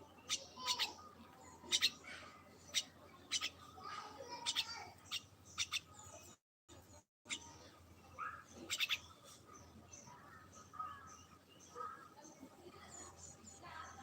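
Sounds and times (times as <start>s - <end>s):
small bird chirping: 0.0s - 12.1s.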